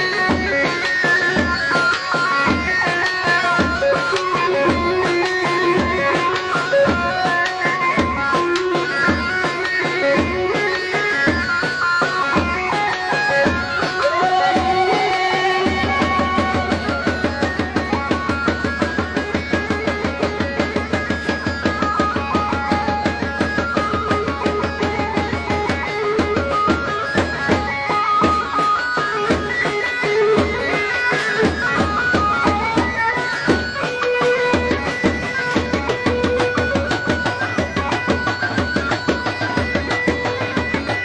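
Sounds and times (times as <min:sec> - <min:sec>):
folk dance melody: 0:00.0 - 0:41.0.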